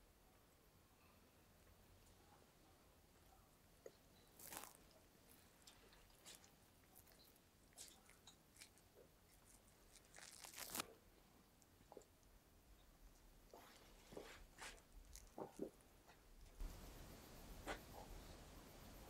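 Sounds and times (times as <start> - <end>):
faint rustles and clicks: 3.2 - 19.0.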